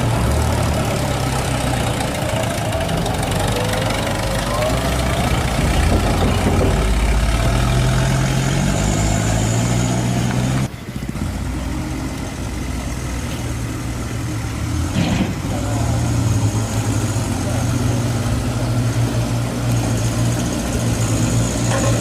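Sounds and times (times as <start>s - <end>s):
heavy vehicle engine running: 0.0s - 22.0s.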